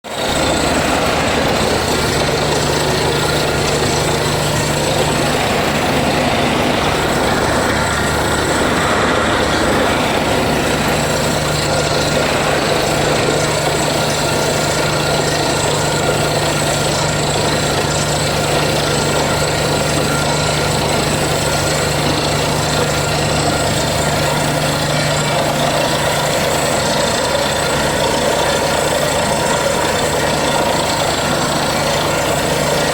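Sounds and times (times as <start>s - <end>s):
drilling rig engine drone: 0.0s - 32.9s.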